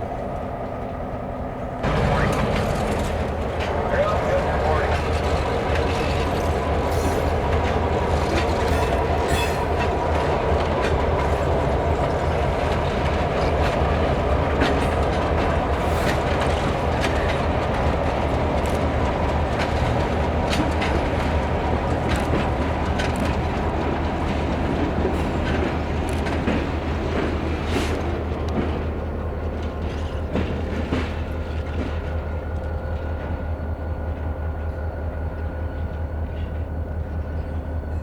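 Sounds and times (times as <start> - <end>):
steel wheels on rail: 0.0 - 38.0.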